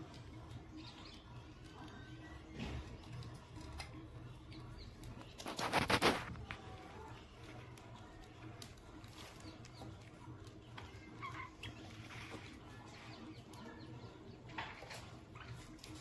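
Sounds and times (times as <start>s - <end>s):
light clicks and scratches: 0.0s - 16.0s.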